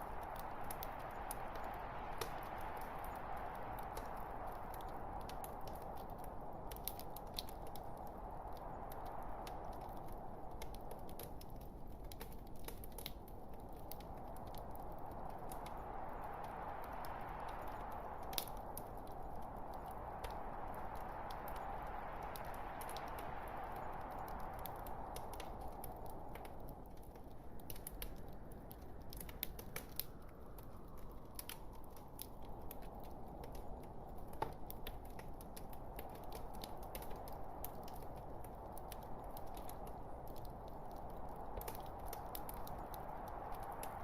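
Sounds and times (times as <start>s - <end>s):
log fire crackling and popping: 0.0s - 44.0s.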